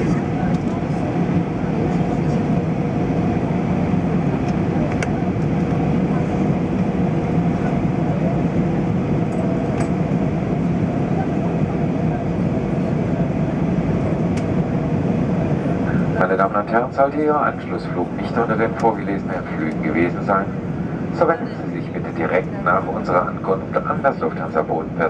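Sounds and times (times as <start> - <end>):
engine and airflow rumble: 0.0 - 25.0.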